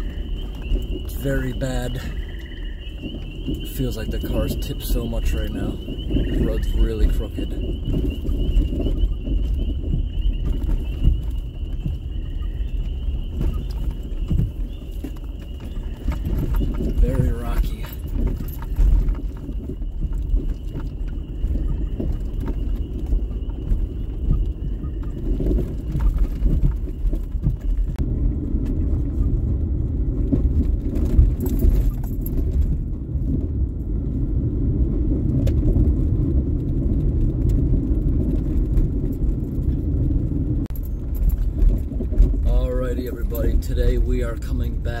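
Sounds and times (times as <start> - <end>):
knocks and rattles: 0.0 - 28.0, 30.1 - 34.2, 35.2 - 45.0
tyres and suspension rumbling: 0.0 - 45.0.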